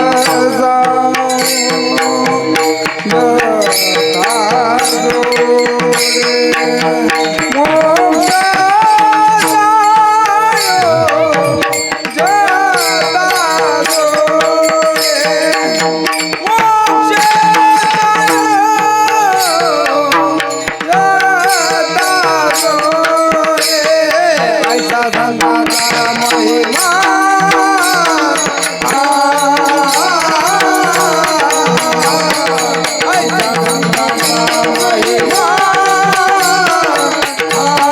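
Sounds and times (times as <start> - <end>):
hand drums: 0.0 - 37.9
man singing: 0.0 - 37.9
small jingling cymbals: 0.0 - 37.9.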